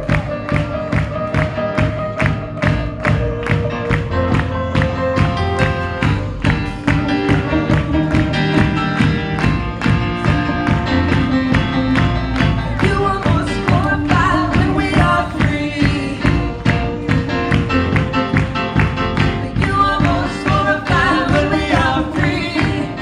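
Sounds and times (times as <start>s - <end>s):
upbeat worship band music: 0.0s - 23.0s
person singing: 2.7s - 23.0s.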